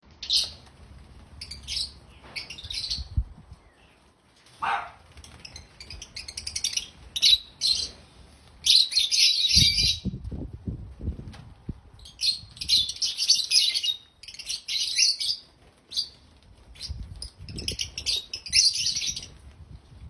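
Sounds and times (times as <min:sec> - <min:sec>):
lovebirds chirping: 0:01.4 - 0:10.2, 0:12.0 - 0:19.5.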